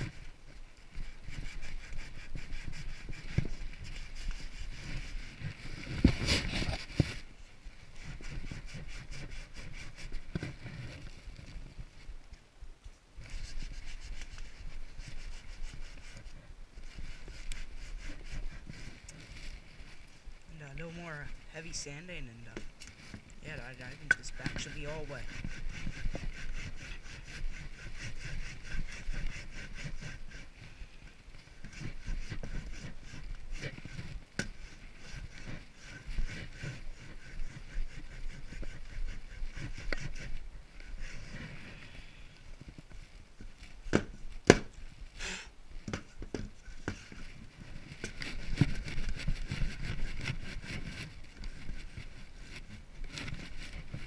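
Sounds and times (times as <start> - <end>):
sandpaper rasping on log: 0.9 - 7.2, 7.8 - 11.5, 13.2 - 21.8, 22.5 - 30.7, 31.4 - 42.1, 46.7 - 54.0.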